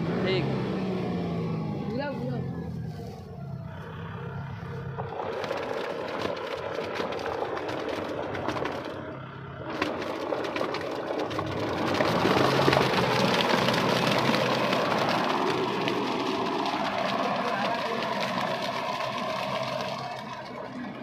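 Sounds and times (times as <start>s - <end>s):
tractor diesel engine working: 0.0s - 21.0s
rotavator churning mud: 2.3s - 21.0s
crackle and splatter of mud: 2.7s - 21.0s.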